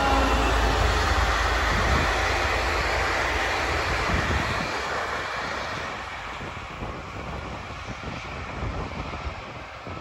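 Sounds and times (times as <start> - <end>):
diesel train passing: 0.0 - 10.0
train wheels on rails: 0.0 - 10.0.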